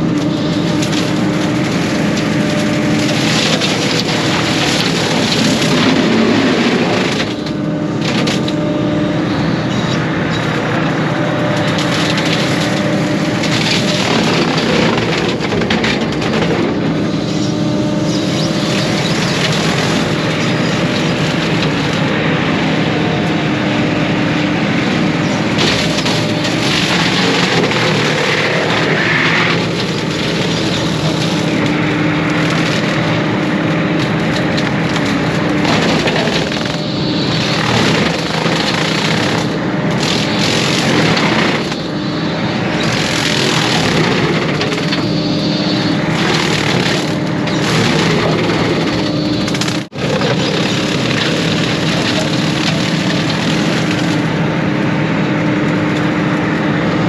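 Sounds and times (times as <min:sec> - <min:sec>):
wood cracking and splintering: 0:00.0 - 0:08.6, 0:10.4 - 0:17.0, 0:18.2 - 0:22.1, 0:25.0 - 0:54.4
diesel engine under load: 0:00.0 - 0:57.0.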